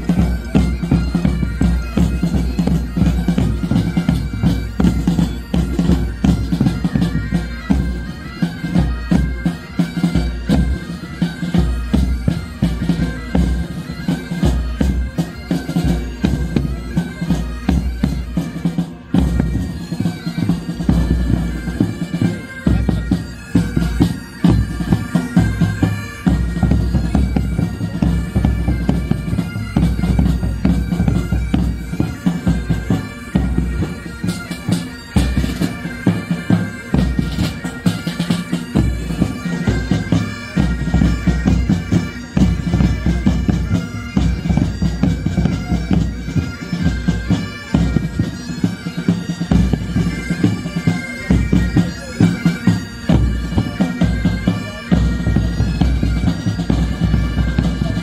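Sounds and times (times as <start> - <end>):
bagpipes playing: 0.0 - 58.0
side drums beating: 0.0 - 58.0.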